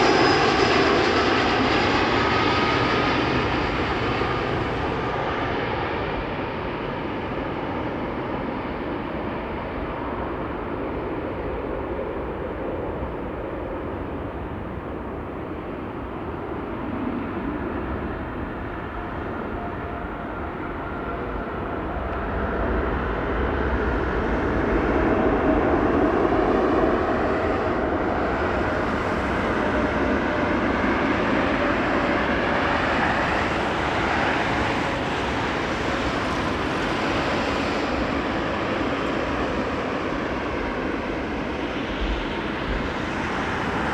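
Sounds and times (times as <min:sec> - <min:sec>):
jet airliner flying past: 0:00.0 - 0:43.9.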